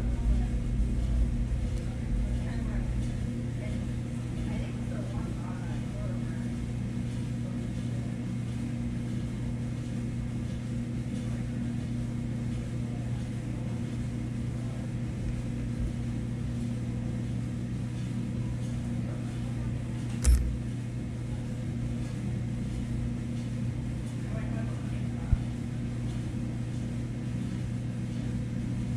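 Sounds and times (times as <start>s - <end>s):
low machine hum: 0.0s - 28.9s.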